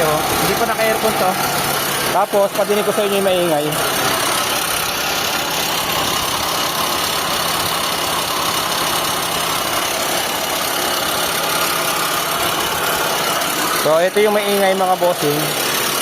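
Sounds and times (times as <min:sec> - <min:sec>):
car engine idling: 0:00.0 - 0:16.0
electric cooling fans running: 0:00.0 - 0:16.0
grinding noise: 0:00.0 - 0:16.0.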